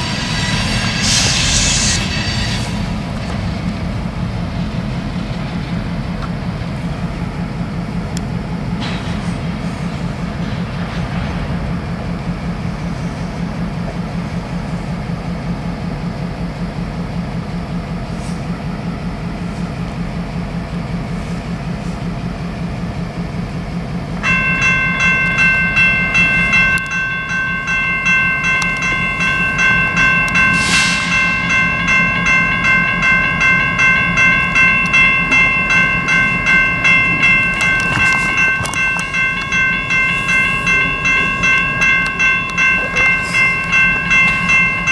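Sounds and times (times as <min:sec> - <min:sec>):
crossing warning bell ringing: 0:00.0 - 0:44.9
locomotive engine rumbling: 0:00.0 - 0:44.9.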